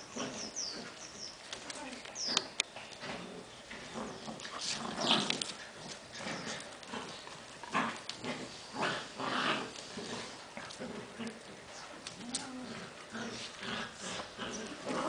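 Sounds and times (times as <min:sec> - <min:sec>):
puppies play-fighting: 0:00.0 - 0:15.0.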